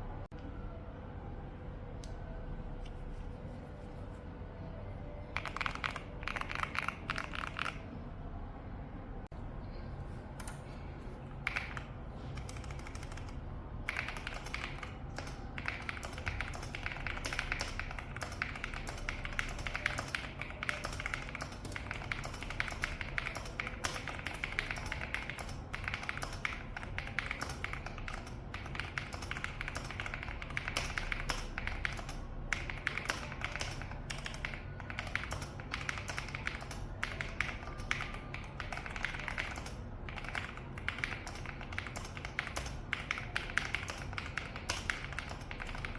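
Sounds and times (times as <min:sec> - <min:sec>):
fast mechanical keyboard typing: 0:05.3 - 0:07.9, 0:11.4 - 0:45.9.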